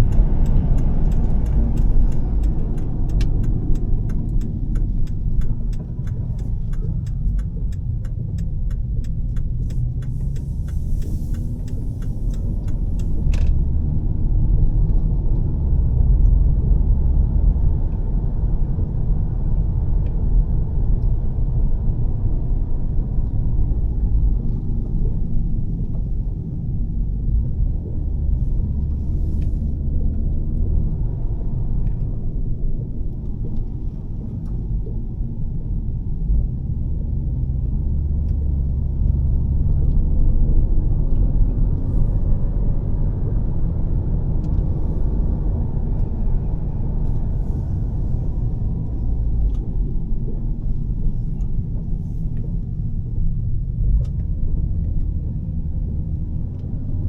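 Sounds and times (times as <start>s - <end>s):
car engine and exhaust rumble: 0.0s - 57.0s
road noise: 0.0s - 57.0s.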